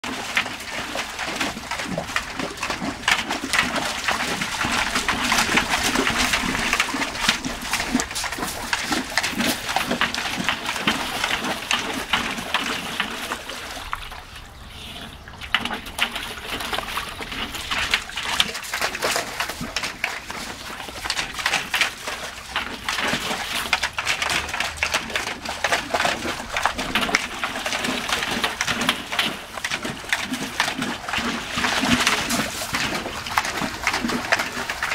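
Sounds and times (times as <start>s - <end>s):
dog splashing in metal tub: 0.0s - 34.9s.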